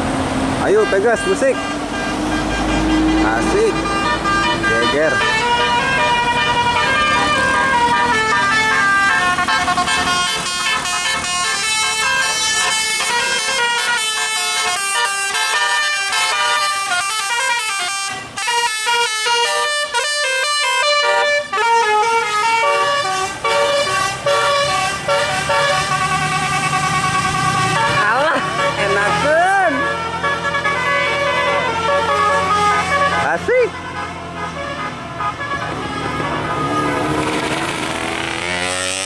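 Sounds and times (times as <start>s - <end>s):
musical air horn tune: 0.8s - 39.0s.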